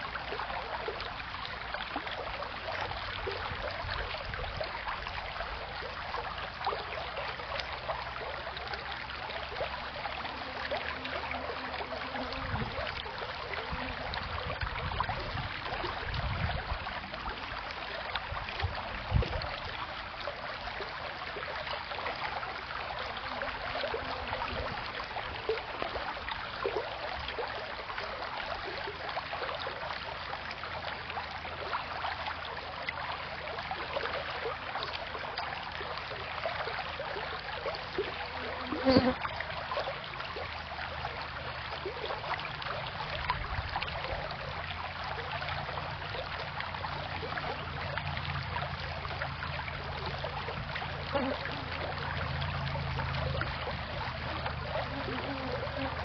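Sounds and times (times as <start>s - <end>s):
creek rippling over cobbles: 0.0s - 56.0s.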